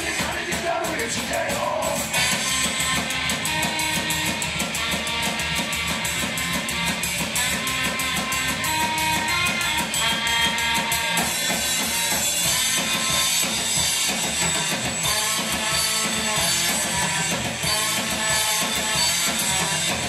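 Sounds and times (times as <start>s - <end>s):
bass guitar: 0.0s - 20.0s
distorted electric guitars: 0.0s - 20.0s
drum kit: 0.0s - 20.0s
saxophone: 2.2s - 13.8s, 15.0s - 20.0s.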